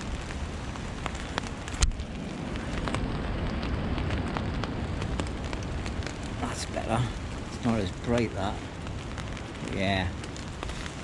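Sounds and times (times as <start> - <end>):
raindrops hitting a tarp: 0.0 - 11.0
wind rumble on microphone: 0.0 - 11.0.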